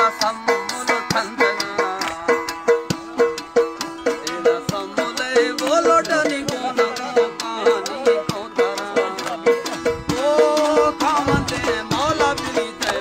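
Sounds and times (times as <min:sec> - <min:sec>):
folk dance music: 0:00.0 - 0:13.0
percussive beat: 0:00.0 - 0:13.0
winding melody line: 0:00.2 - 0:13.0.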